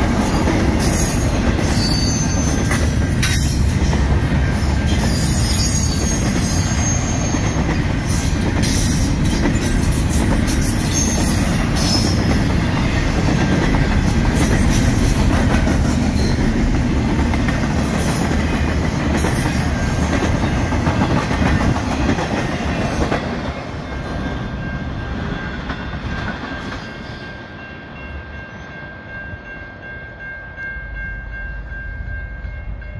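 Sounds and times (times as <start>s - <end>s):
freight train wheel clatter: 0.0s - 27.2s.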